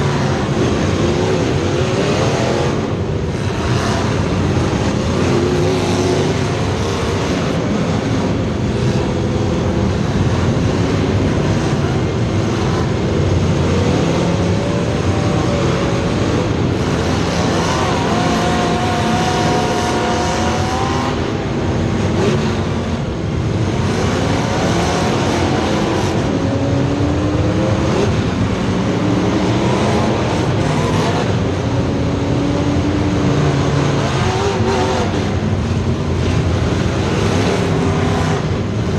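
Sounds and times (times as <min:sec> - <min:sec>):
race car engines: 0:00.0 - 0:38.9.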